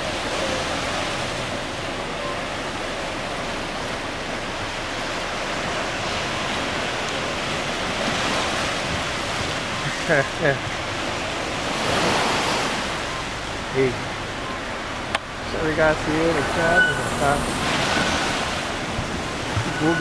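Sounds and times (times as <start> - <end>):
waves washing on shore: 0.0 - 20.0.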